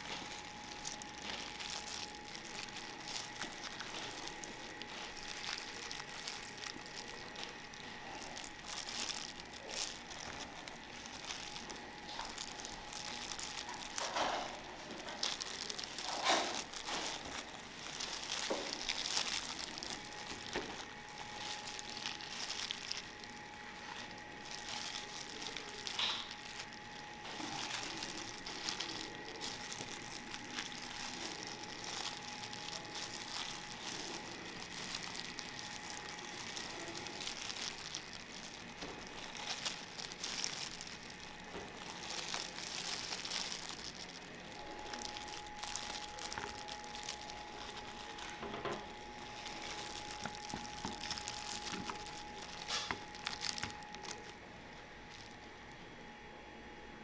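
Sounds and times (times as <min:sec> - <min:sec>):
plastic tray crinkling: 0:00.0 - 0:55.8
faint high hum: 0:00.0 - 0:57.0.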